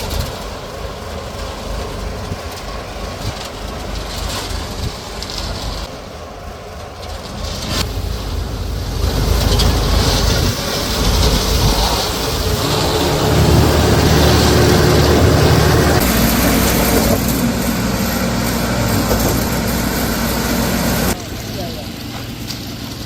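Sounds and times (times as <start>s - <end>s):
heavy machinery engine running: 0.0s - 23.0s.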